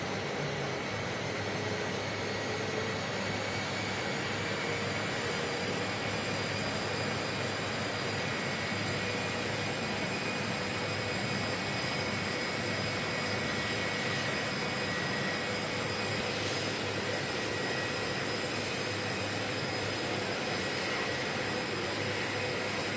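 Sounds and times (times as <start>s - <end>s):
aircraft engine rushing: 0.0s - 22.9s.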